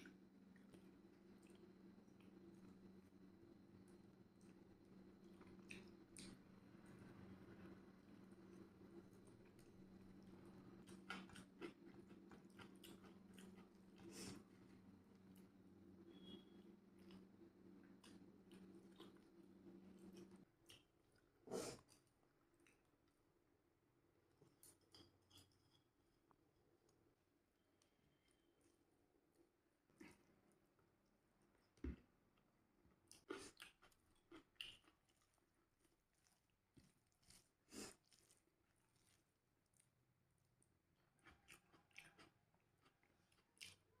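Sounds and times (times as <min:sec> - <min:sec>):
faint chewing: 0:00.0 - 0:23.2, 0:27.8 - 0:44.0.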